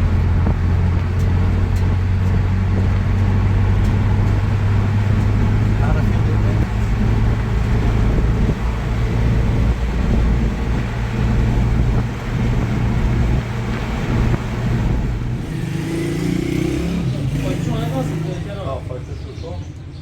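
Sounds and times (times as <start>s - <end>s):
motor vehicle running: 0.0s - 20.0s.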